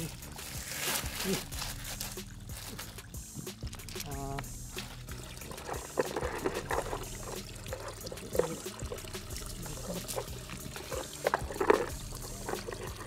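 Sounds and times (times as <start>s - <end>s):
water trickling over stones: 0.0s - 13.0s.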